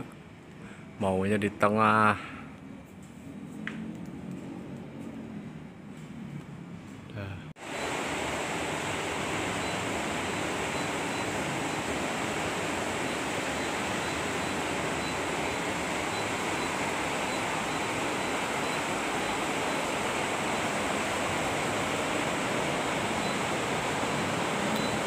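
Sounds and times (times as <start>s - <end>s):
air conditioner fan rushing air: 0.0s - 25.0s.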